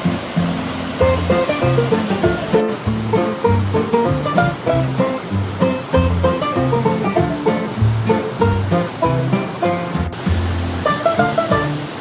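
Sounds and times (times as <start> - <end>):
upbeat plucked-string music: 0.0 - 12.0.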